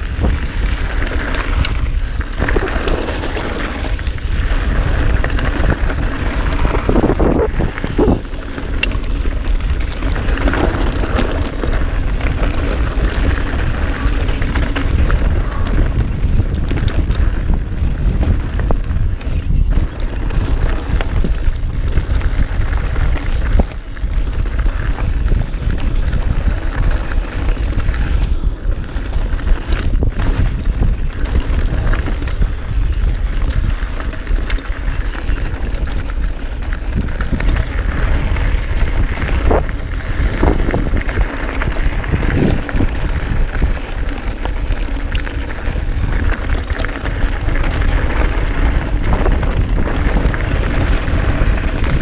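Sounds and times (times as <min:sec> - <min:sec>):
tyres on trail: 0:00.0 - 0:52.0
wind buffeting microphone: 0:00.0 - 0:52.0.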